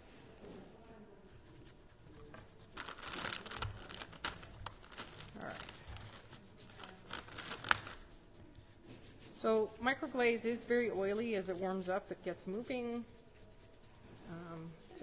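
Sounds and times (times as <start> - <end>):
fingertips rubbing on cardstock: 1.4 - 15.0.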